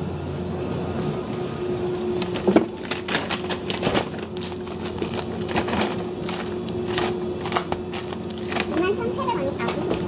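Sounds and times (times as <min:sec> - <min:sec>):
steady humming tone: 0:00.0 - 0:10.0.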